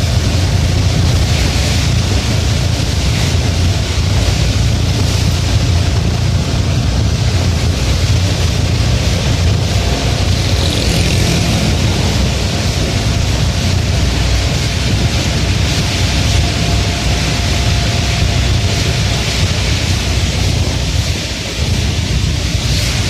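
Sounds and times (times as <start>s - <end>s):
low vehicle rumble: 0.0s - 23.0s
rain hissing: 0.0s - 23.0s.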